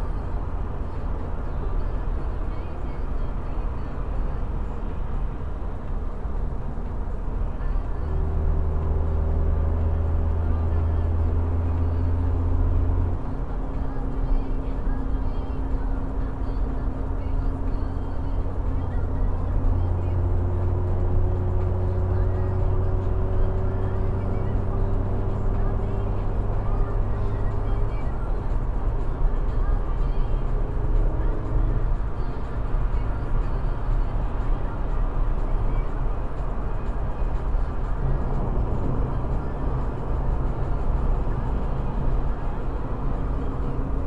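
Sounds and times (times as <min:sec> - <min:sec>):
car road and engine drone: 0:00.0 - 0:44.0.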